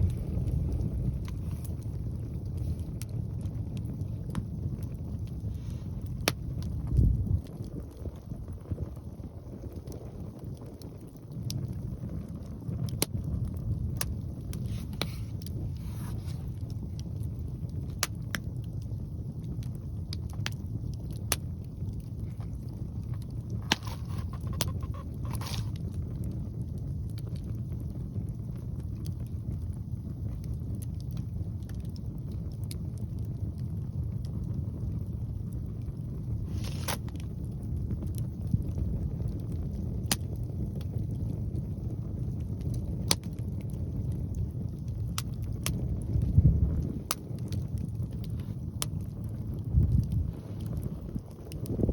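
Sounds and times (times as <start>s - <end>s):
wind buffeting microphone: 0.0s - 51.9s
wood fire crackling pops: 0.0s - 51.9s.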